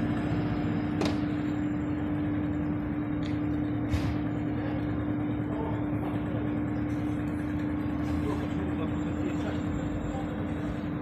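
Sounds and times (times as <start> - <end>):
constant background noise: 0.0 - 11.0
mechanical hum: 0.0 - 11.0.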